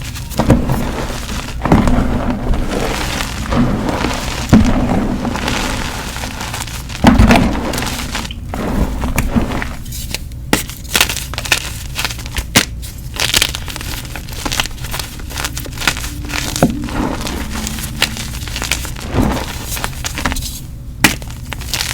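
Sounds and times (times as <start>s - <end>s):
chalk crunching and crumbling: 0.0s - 21.9s.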